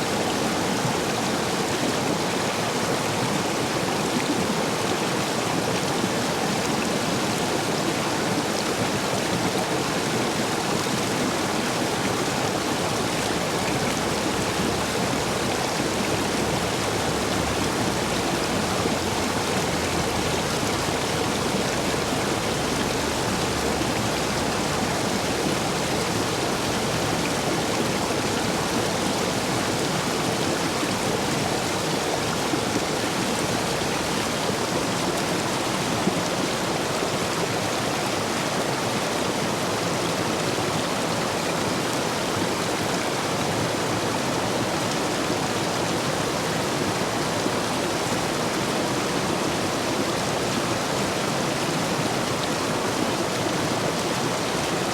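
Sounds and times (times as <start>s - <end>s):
water rushing over stones: 0.0s - 54.9s.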